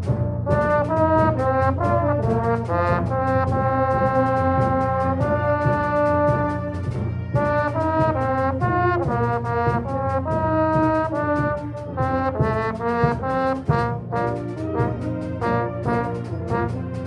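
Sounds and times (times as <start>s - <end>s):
brass ensemble playing a fanfare: 0.0s - 17.0s.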